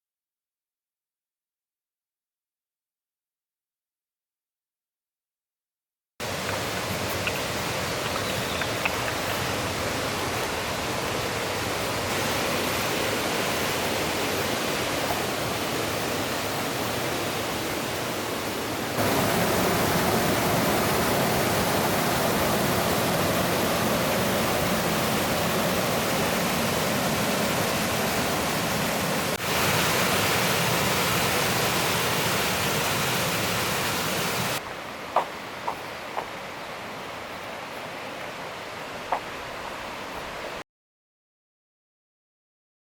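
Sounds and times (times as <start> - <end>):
rushing stream and waterfall: 6.2 - 40.6.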